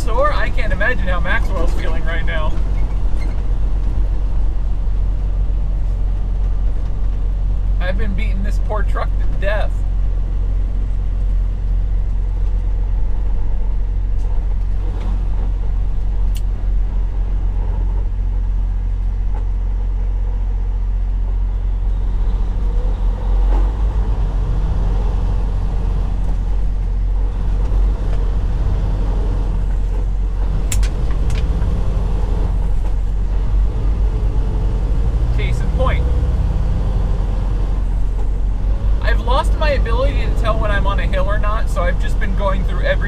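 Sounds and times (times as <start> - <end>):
truck diesel engine rumble: 0.0 - 43.0.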